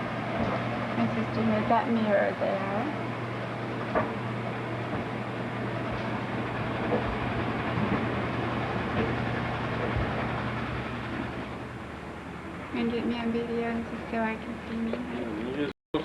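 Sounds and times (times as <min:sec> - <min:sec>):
machine rumbling: 0:00.0 - 0:16.0.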